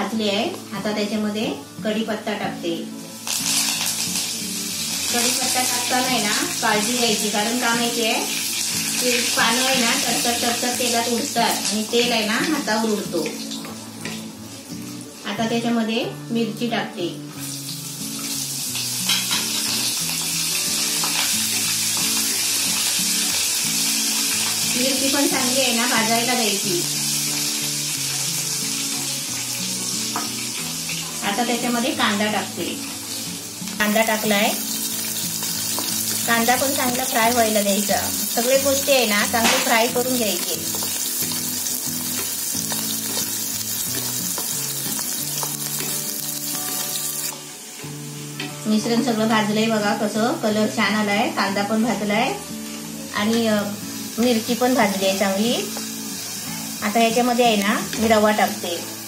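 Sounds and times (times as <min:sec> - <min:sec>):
chillies sizzling in hot oil: 0:00.0 - 0:59.0.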